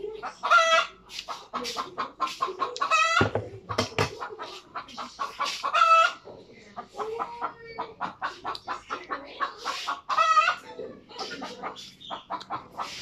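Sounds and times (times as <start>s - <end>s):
chicken squawking: 0.0s - 3.3s, 4.2s - 13.0s.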